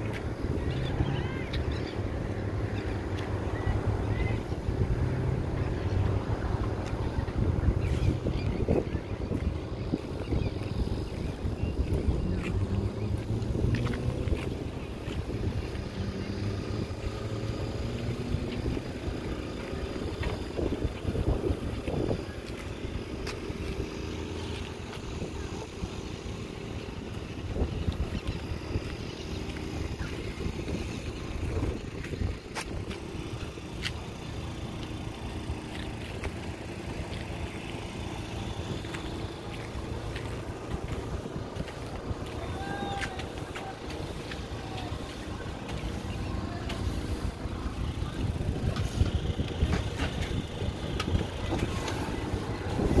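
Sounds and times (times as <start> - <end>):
wind buffeting microphone: 4.2 - 24.0, 27.2 - 33.5, 36.0 - 53.0.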